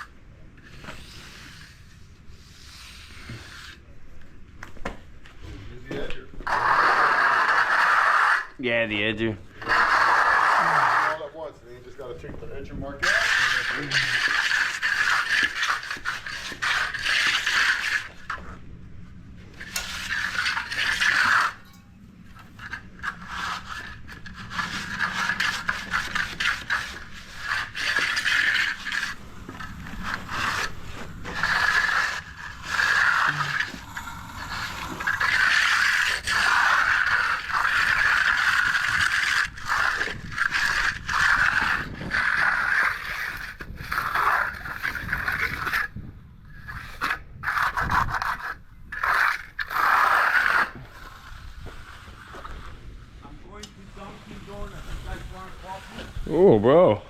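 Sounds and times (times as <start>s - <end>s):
trowel scraping concrete: 0.0s - 4.0s, 5.9s - 18.6s, 19.4s - 52.8s.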